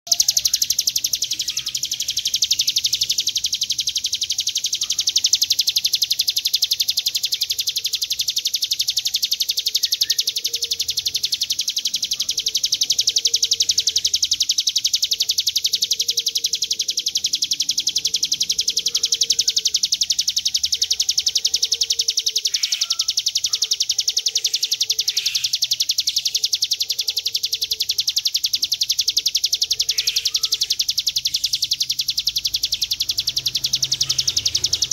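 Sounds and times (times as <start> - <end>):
bird singing buzzing trill: 0.0 - 34.9.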